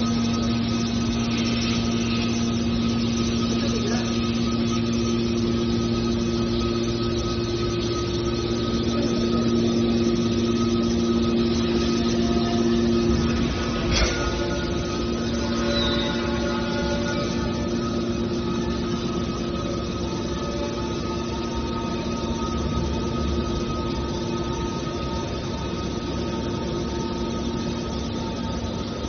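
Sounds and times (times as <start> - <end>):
hydraulic power unit humming: 0.0 - 29.0.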